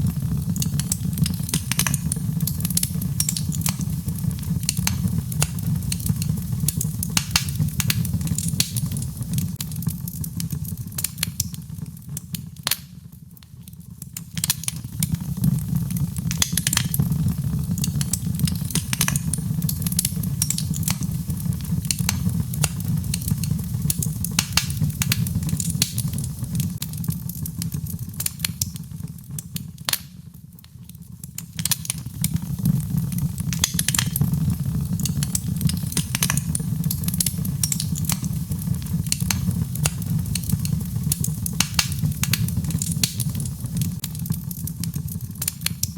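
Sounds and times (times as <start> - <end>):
fire crackling and popping: 0.0 - 45.9.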